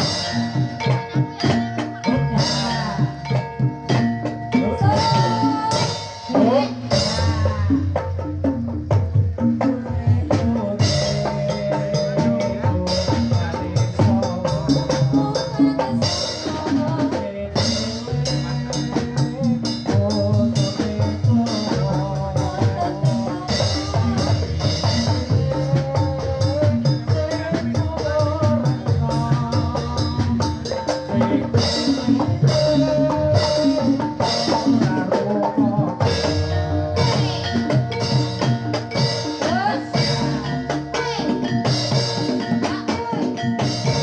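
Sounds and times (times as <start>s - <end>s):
drums beating driving rhythm: 0.0s - 44.0s
held pitched tones: 0.0s - 44.0s.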